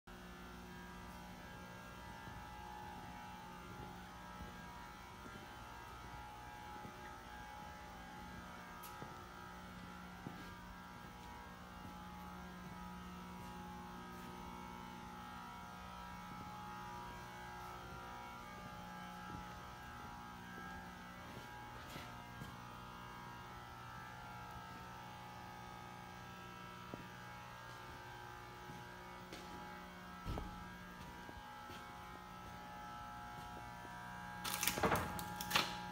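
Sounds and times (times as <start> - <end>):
faint electrical hum: 0.1 - 35.9.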